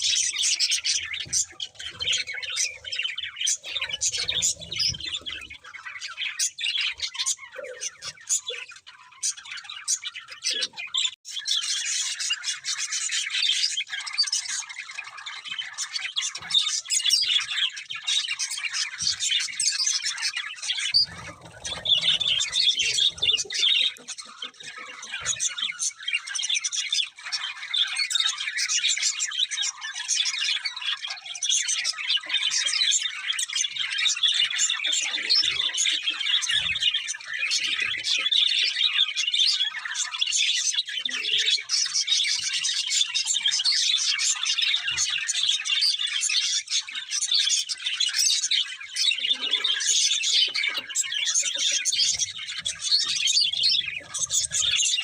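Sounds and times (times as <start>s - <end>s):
budgerigars chirping and chattering: 0.0s - 55.0s.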